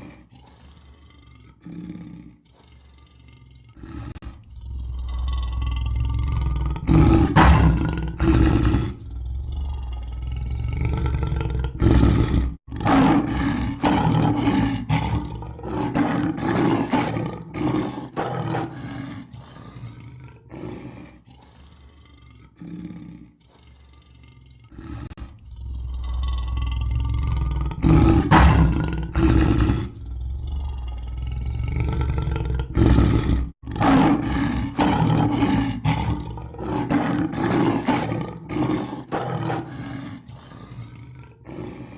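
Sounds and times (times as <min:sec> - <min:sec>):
lion roaring: 0:00.0 - 0:41.9.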